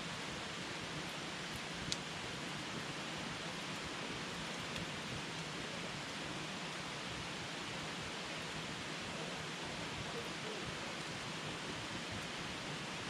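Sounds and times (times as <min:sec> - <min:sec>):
campfire hissing: 0:00.0 - 0:13.0.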